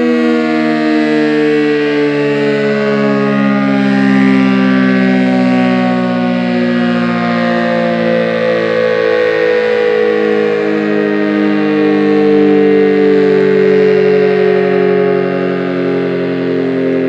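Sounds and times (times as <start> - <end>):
outdoor warning siren: 0.0 - 17.0.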